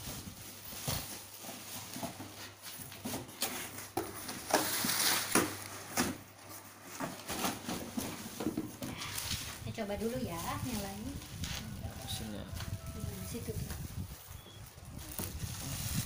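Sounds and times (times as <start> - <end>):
cardboard and plastic rustling: 0.0 - 16.0.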